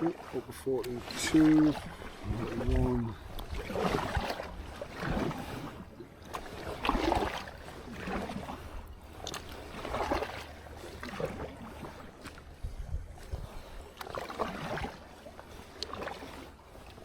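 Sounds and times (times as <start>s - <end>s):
water splashing around kayak: 0.0s - 17.0s.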